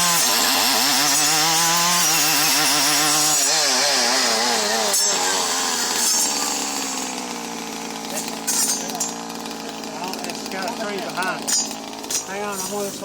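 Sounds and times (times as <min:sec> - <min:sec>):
brushcutter engine at full throttle: 0:00.0 - 0:13.0
saw blade cutting wood: 0:00.0 - 0:13.0.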